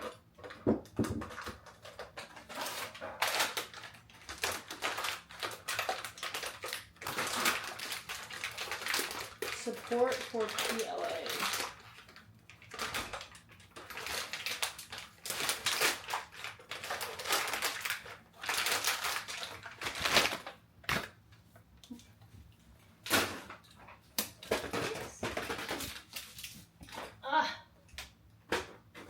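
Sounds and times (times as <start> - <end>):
packaging rustling and crinkling: 0.0 - 21.2, 23.0 - 27.2.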